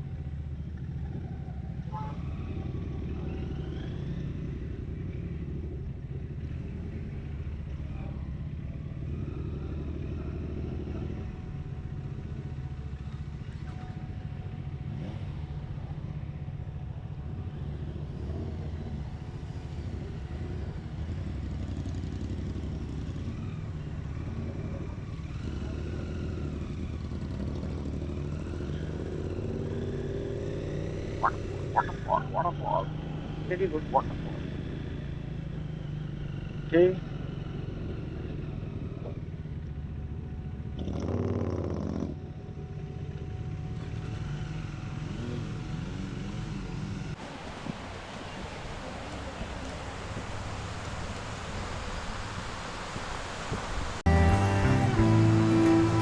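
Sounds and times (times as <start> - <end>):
motorcycle engine running: 0.0 - 47.2, 54.1 - 56.0.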